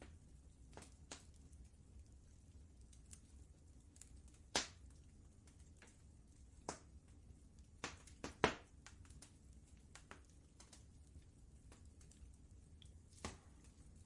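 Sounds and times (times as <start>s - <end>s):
faint low rumble: 0.0s - 14.0s
wood fire crackling and popping: 0.0s - 14.0s.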